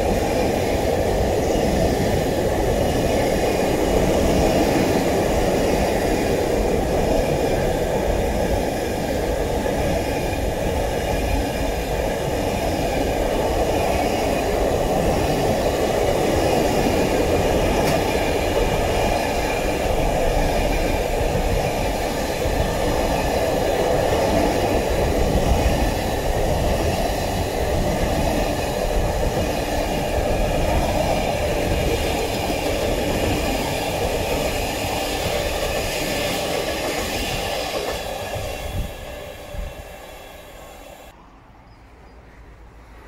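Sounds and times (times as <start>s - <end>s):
freight train rumbling on rails: 0.0s - 41.2s.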